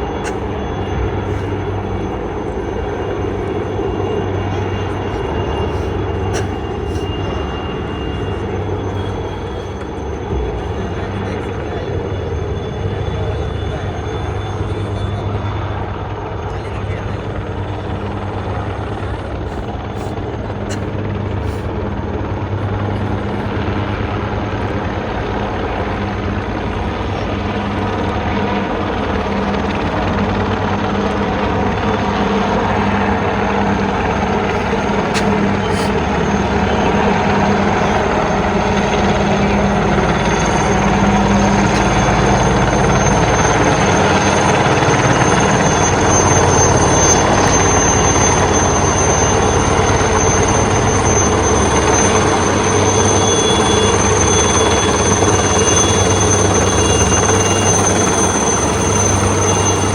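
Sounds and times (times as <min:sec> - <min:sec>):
helicopter rotor and engine: 0:00.0 - 0:59.9
thin high whine: 0:00.0 - 0:59.9.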